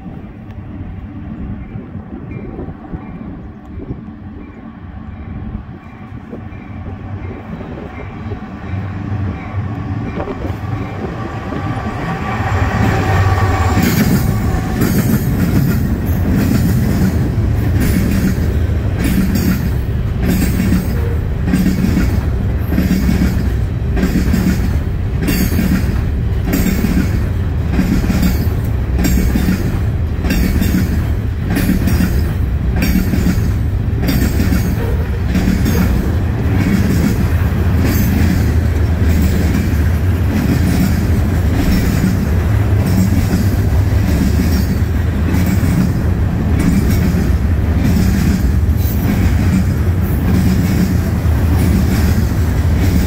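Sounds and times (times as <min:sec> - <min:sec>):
diesel locomotive rumble: 0:00.0 - 0:53.0
train wheels clicking over rail joints: 0:09.6 - 0:53.0.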